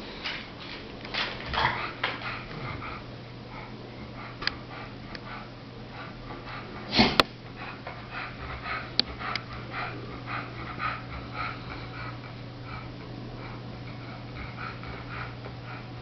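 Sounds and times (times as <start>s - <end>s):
dog breathing noisily: 1.2s - 16.0s.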